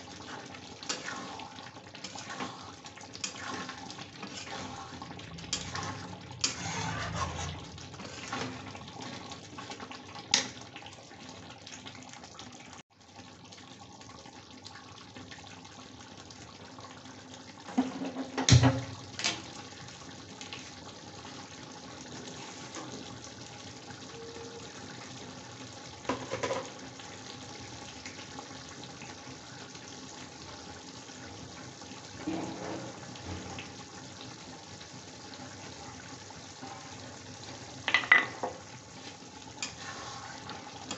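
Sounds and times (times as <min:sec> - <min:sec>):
curry bubbling and simmering: 0:00.0 - 0:40.9.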